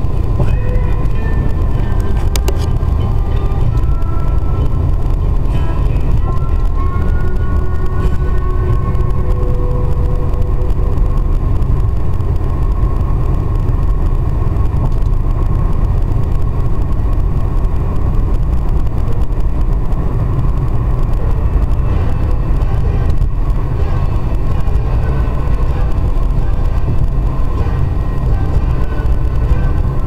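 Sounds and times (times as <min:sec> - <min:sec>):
tyre and road noise: 0:00.0 - 0:30.0
wind noise: 0:00.0 - 0:30.0.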